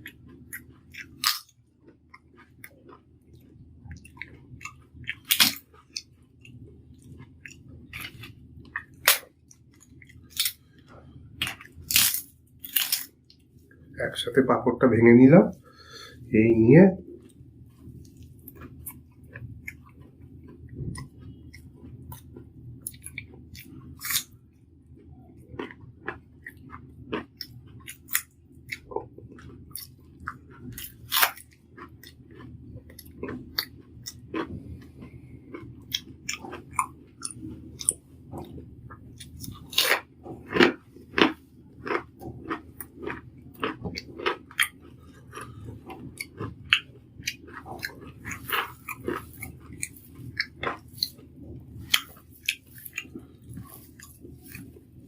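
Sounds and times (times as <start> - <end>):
crunchy chewing: 0.0 - 14.0, 17.0 - 55.0
steady low hum: 0.0 - 55.0.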